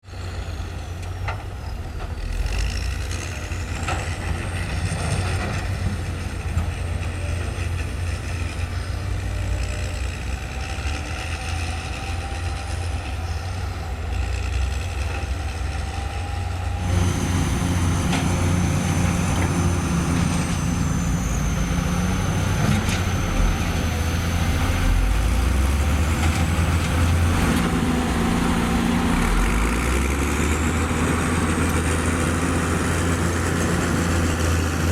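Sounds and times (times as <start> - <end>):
heavy diesel machinery running: 0.1 - 34.9.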